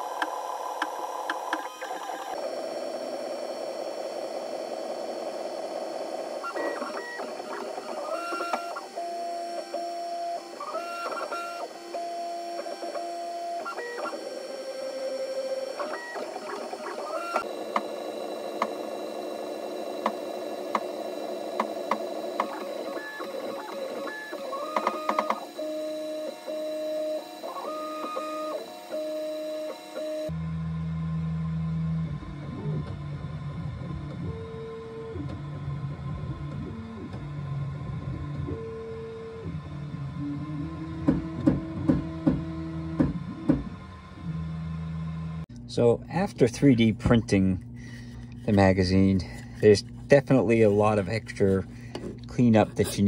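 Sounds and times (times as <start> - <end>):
stepper motors whining: 0.0 - 45.4.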